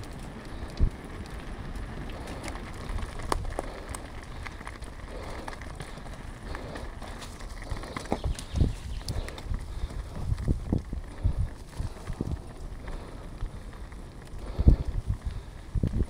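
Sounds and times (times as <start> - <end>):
bike clicks and rattles: 0.0 - 16.0
tyres crackling on grit: 0.0 - 16.0.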